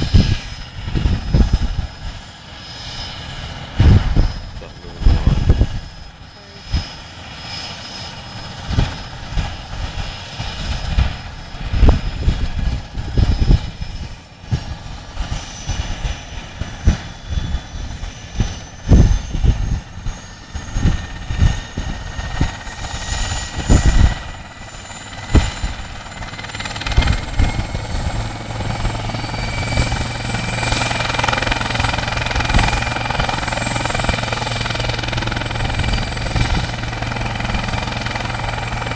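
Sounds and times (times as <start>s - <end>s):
helicopter turbine whine and rotor: 0.0s - 38.9s.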